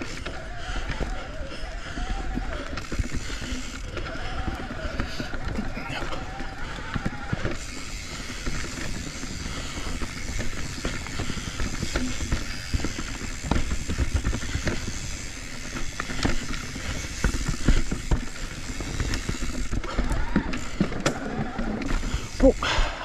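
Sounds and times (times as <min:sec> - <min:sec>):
bike knocking and rattling: 0:00.0 - 0:23.0.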